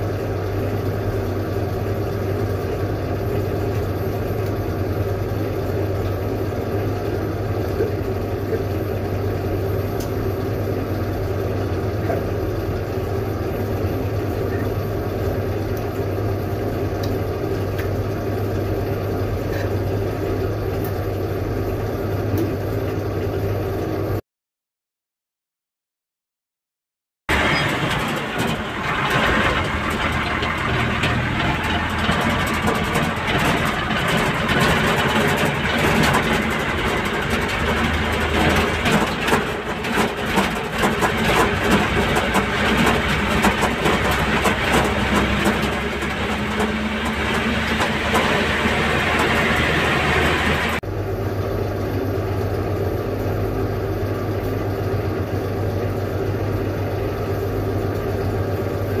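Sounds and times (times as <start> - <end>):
truck engine rattling drone: 0.0 - 24.2, 27.3 - 59.0.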